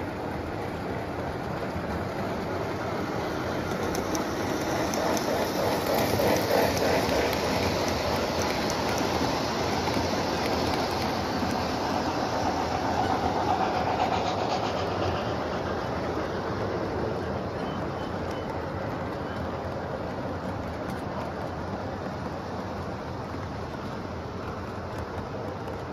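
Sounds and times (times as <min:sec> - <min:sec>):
model train rumbling on track: 0:00.0 - 0:25.9.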